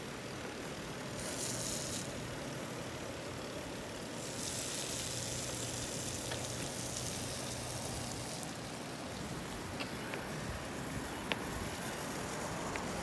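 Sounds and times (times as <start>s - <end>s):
bicycle tyres spraying water: 0.0s - 13.0s.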